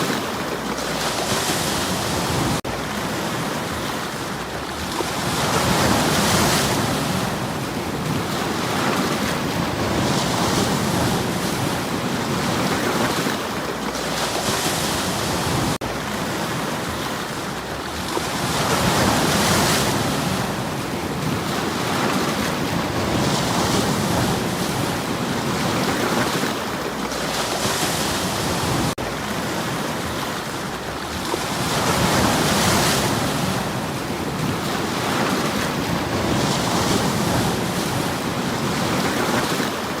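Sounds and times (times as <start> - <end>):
waves washing onto stony shore: 0.0 - 40.0.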